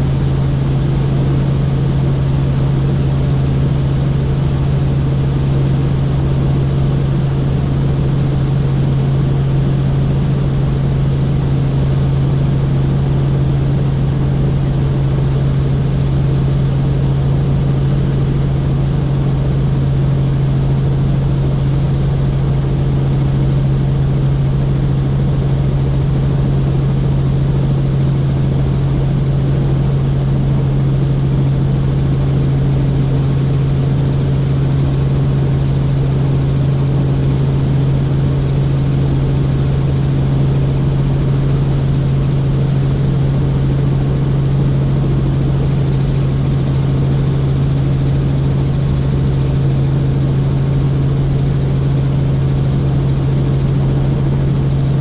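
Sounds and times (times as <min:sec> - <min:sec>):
helicopter droning in flight: 0:00.0 - 0:55.0.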